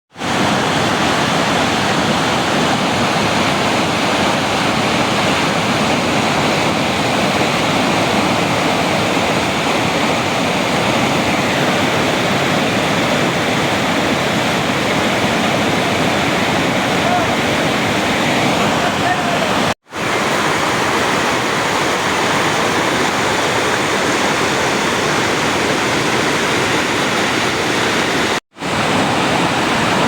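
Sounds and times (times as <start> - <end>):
river rushing over rocks: 0.2 - 30.0.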